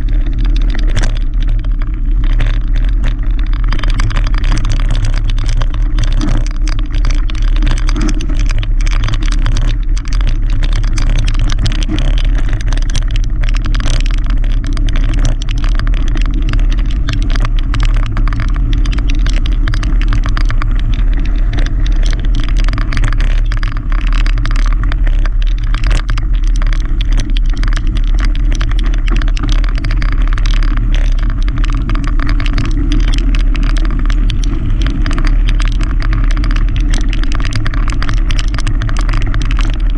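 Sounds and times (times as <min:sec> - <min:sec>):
bike tyres rumbling on gravel: 0:00.0 - 0:39.9
tyres crackling on loose gravel: 0:00.0 - 0:39.9.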